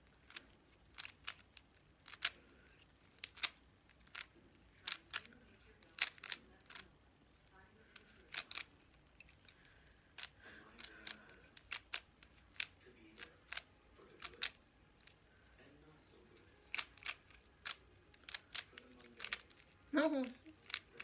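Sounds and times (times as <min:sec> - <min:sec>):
plastic puzzle cube clicking: 0:00.0 - 0:06.9, 0:07.9 - 0:15.2, 0:16.6 - 0:19.8, 0:20.5 - 0:21.0.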